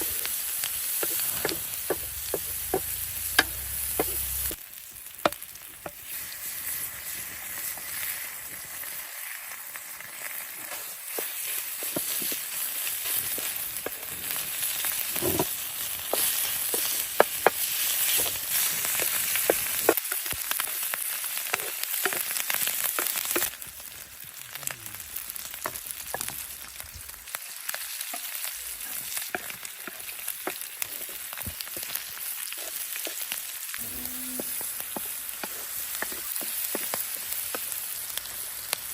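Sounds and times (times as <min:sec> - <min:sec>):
mushrooms sizzling in a pan: 0:00.0 - 0:38.9.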